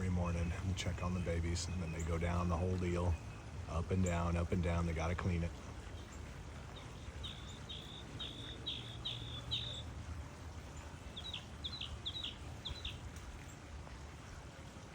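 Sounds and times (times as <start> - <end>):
bird calling: 0.0 - 10.0, 10.8 - 13.1.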